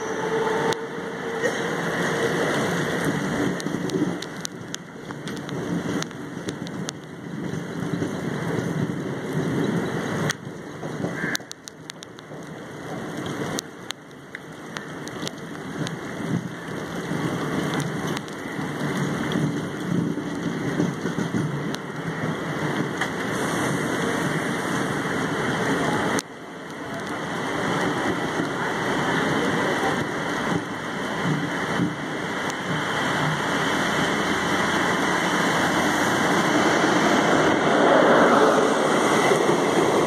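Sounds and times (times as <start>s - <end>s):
heavy rain pouring: 0.0s - 40.0s
train running noise: 0.0s - 40.0s.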